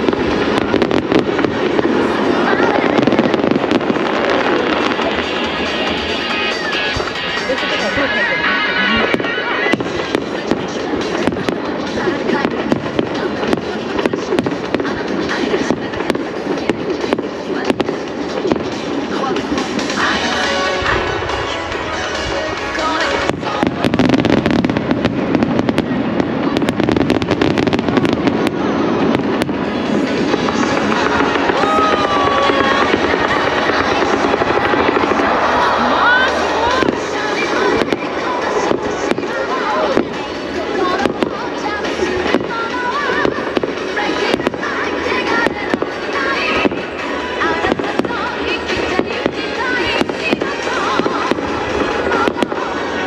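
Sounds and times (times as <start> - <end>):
fireworks crackling: 0.0 - 53.0
music: 0.0 - 53.0.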